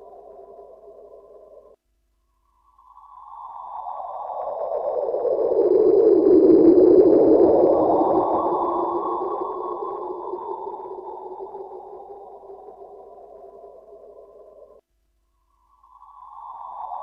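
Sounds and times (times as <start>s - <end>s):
faint high steady tones: 0.0s - 17.0s.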